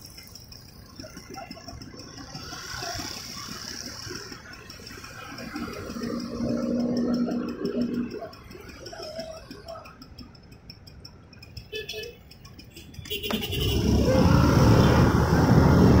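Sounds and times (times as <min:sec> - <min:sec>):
faint street traffic: 0:00.0 - 0:16.0
scooter passing: 0:00.1 - 0:10.5, 0:12.4 - 0:16.0.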